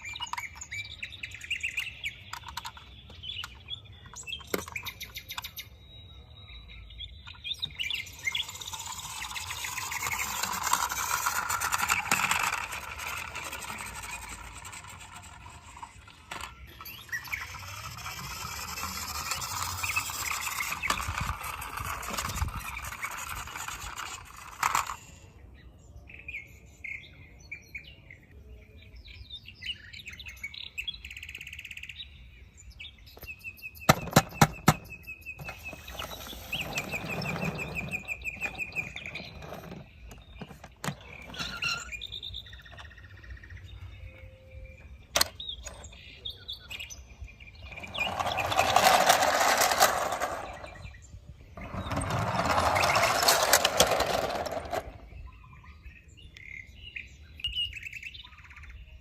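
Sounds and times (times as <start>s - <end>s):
birds chirping in trills: 0.0s - 59.0s.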